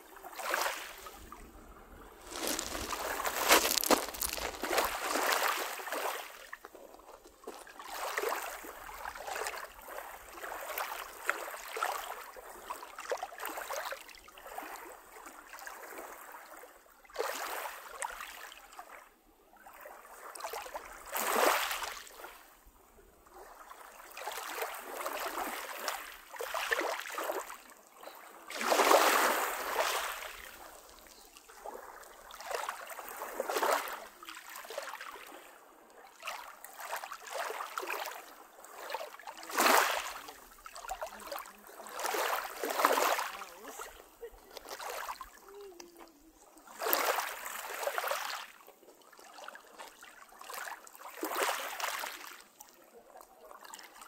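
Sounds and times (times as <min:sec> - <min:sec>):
waves lapping on pebble beach: 0:00.0 - 0:19.0, 0:19.6 - 0:22.5, 0:23.3 - 0:52.4.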